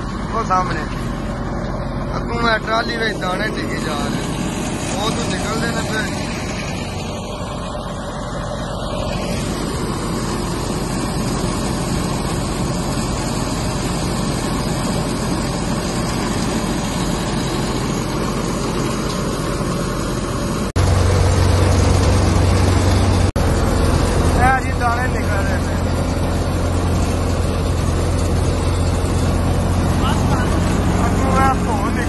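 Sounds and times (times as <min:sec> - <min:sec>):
tractor engine hum: 0:00.0 - 0:32.0
wheat thresher running: 0:00.0 - 0:32.0.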